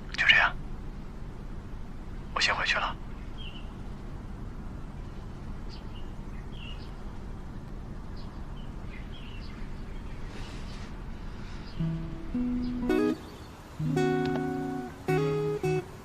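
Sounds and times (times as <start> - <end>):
steady low background noise: 0.0 - 16.0
small birds chirping: 1.8 - 16.0.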